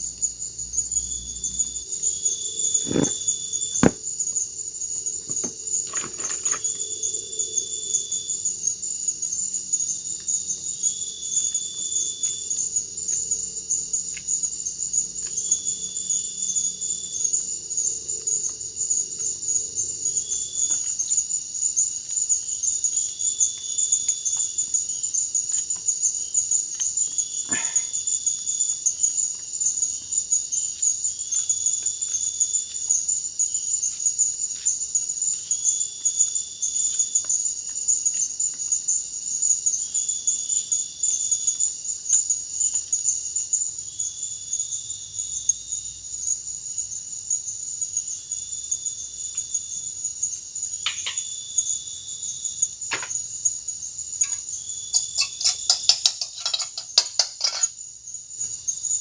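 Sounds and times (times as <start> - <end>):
crickets chirring: 0.0 - 59.0
lower insect call: 0.0 - 59.0.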